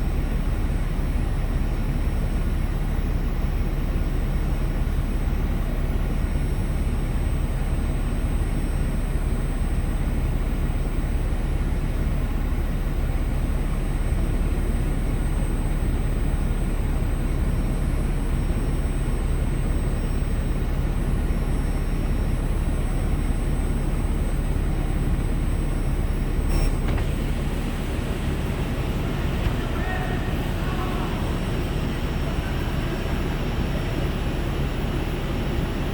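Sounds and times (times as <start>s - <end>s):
diesel engine rumbling: 0.0s - 35.9s.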